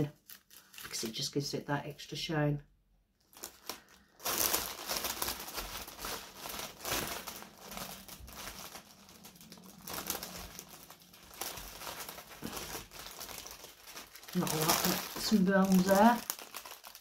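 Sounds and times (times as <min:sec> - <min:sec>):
plastic bag crinkling: 0:00.0 - 0:01.2, 0:03.2 - 0:17.0.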